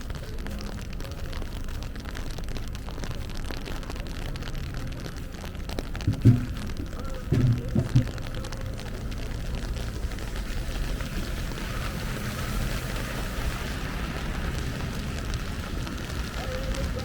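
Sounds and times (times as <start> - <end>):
rain: 0.0 - 17.0
traffic noise: 0.0 - 17.0.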